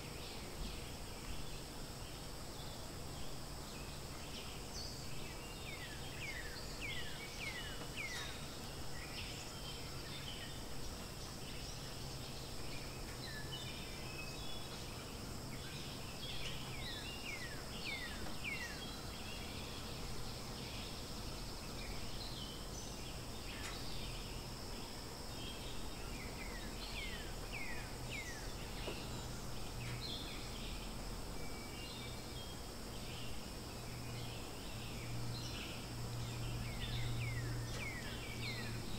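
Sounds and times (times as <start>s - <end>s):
birds chirping: 0.0s - 38.9s
high insect drone: 0.0s - 38.9s.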